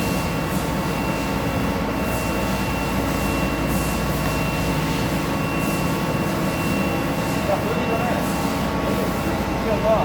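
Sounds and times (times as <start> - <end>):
high-pitched machine tones: 0.0 - 8.6
industrial machinery hum: 0.0 - 10.0.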